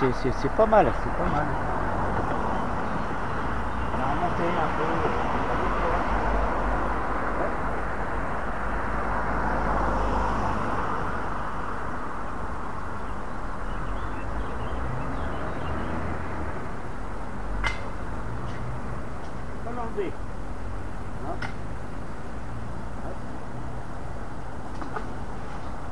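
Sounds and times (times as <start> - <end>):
rushing outdoor background noise: 0.0 - 25.9.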